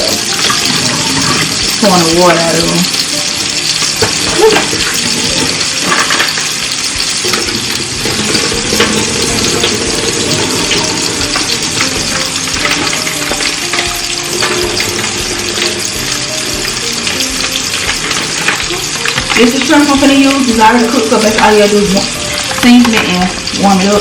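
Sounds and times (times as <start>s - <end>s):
food sizzling and popping: 0.0s - 24.0s.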